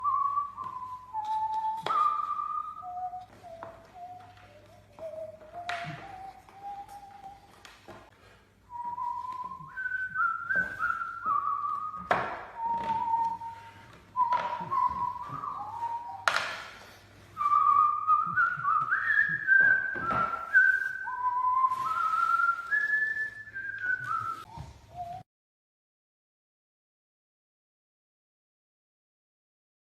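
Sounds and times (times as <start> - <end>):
person whistling a tune: 0.0 - 8.1, 8.7 - 25.3.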